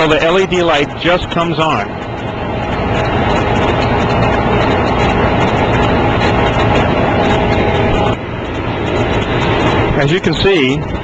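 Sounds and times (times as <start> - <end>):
steady tone: 0.0 - 11.0
water pump humming: 0.0 - 11.0.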